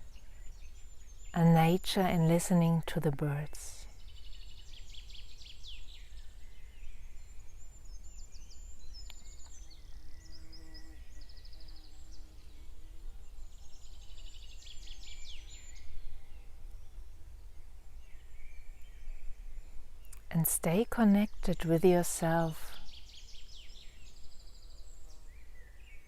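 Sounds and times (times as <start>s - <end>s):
songbirds chirping and trilling: 0.0s - 26.0s.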